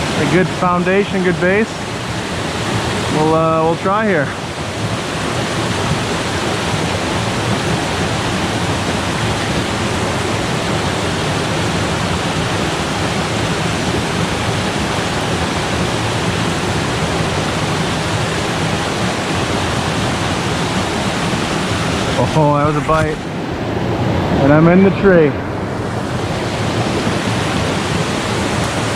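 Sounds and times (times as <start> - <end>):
stream water rushing: 0.0 - 28.9.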